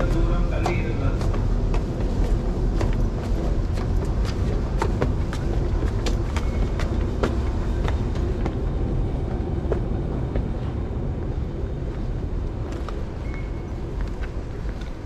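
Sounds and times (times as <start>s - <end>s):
footsteps on stone stairs: 0.0s - 15.0s
steady low rumble: 0.0s - 15.0s.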